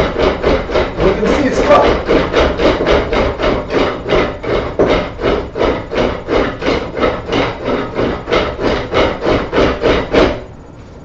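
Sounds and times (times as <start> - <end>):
hand drill rasping into wood: 0.0 - 10.5.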